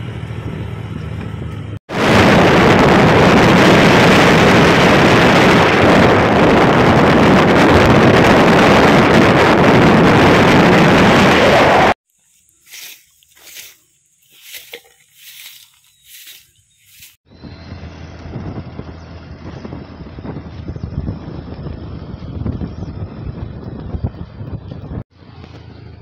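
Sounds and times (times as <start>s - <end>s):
motorcycle engine: 0.0s - 12.0s, 14.4s - 26.0s
wind buffeting microphone: 1.2s - 12.0s, 15.2s - 26.0s.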